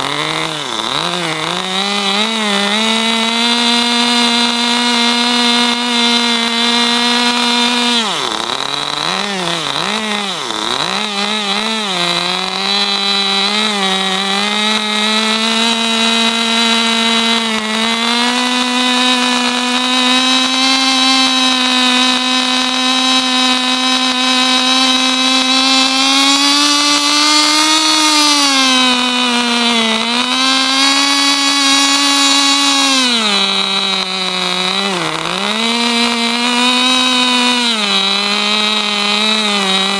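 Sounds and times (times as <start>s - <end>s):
model engine revving: 0.0s - 39.9s.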